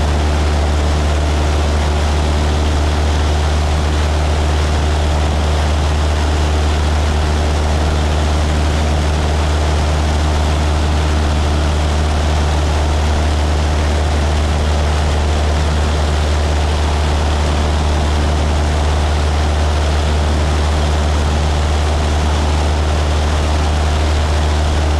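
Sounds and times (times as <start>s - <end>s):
propeller airplane engine droning: 0.0s - 24.9s.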